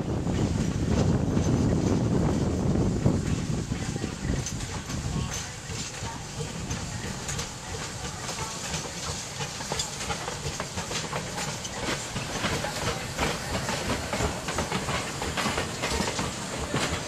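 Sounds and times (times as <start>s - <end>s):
steam locomotive hissing: 0.0s - 17.0s
wheels clicking over rail joints: 0.3s - 17.0s.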